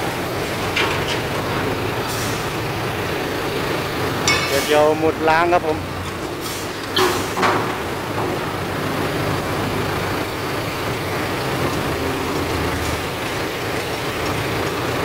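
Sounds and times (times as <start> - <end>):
diesel truck engine running: 0.0 - 15.0
load of sugarcane dumping: 0.0 - 15.0.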